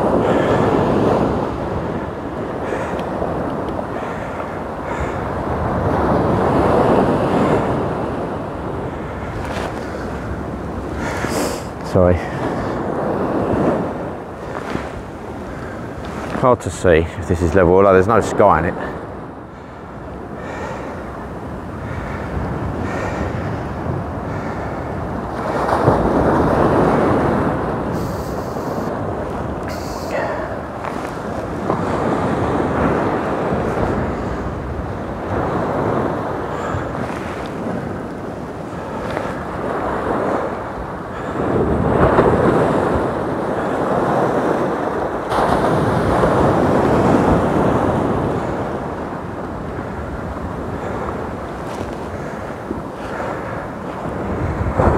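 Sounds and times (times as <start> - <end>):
wind on microphone: 0.0 - 16.4, 17.1 - 54.9
sea surf washing on beach: 0.0 - 54.9.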